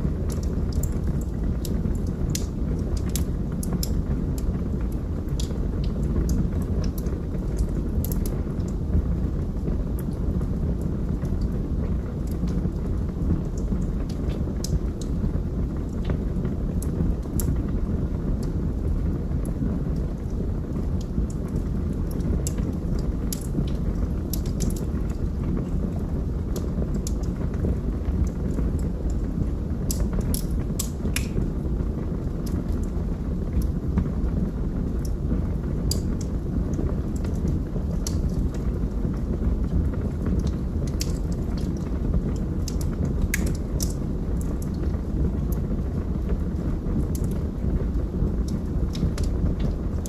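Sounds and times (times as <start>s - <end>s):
fire flames rumbling: 0.0s - 50.0s
logs crackling and popping: 0.0s - 50.0s.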